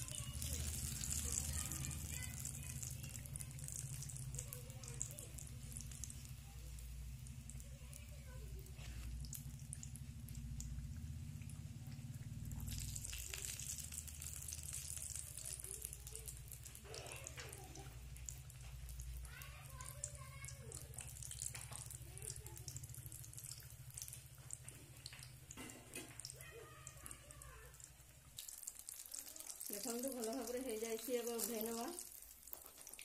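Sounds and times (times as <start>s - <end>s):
oil sizzling while deep-frying: 0.0s - 33.0s.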